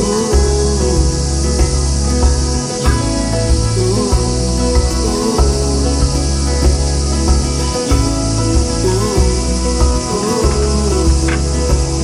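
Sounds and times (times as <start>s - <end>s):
slow pop love song: 0.0s - 12.0s.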